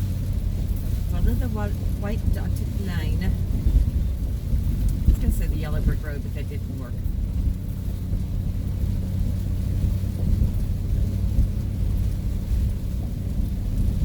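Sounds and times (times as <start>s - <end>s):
constant hum: 0.0s - 14.0s
tyres on road: 0.0s - 14.0s
vehicle engine drone: 0.0s - 14.0s.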